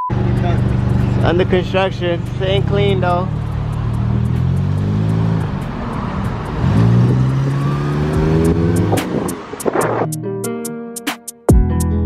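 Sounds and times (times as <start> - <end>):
car engine accelerating: 0.1 - 10.1.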